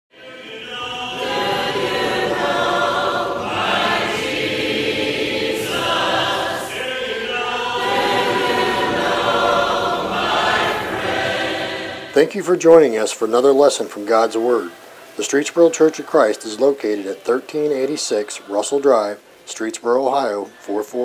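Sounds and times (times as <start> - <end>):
choir singing a hymn: 0.1 - 21.0.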